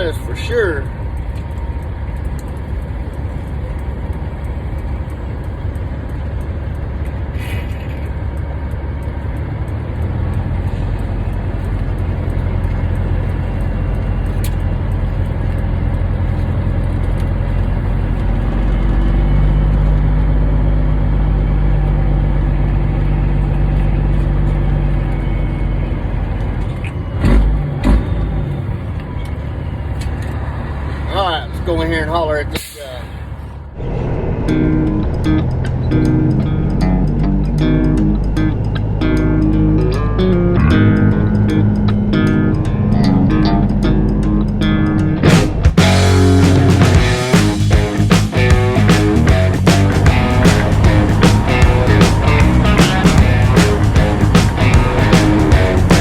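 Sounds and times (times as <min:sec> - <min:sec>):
truck diesel engine: 0:00.0 - 0:56.0.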